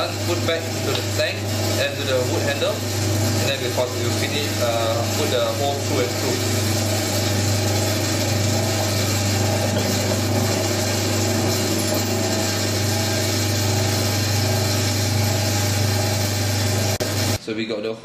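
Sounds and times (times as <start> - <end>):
electric drill boring wood: 0.0 - 17.4.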